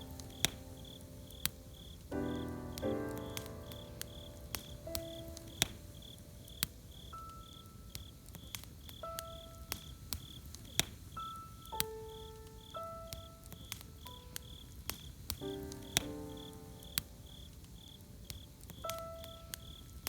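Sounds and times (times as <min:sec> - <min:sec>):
campfire crackling and popping: 0:00.0 - 0:20.0
cricket chirping: 0:00.0 - 0:20.0
soft instrumental music: 0:00.0 - 0:20.0.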